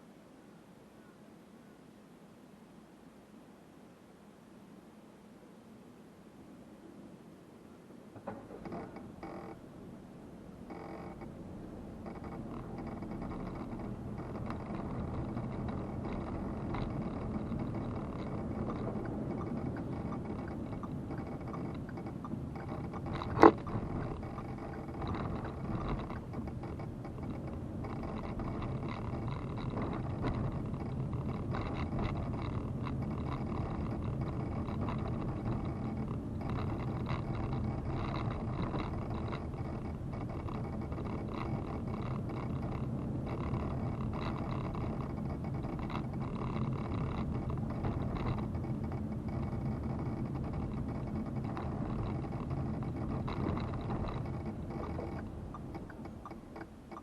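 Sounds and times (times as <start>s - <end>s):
car road and engine noise: 8.0s - 57.0s.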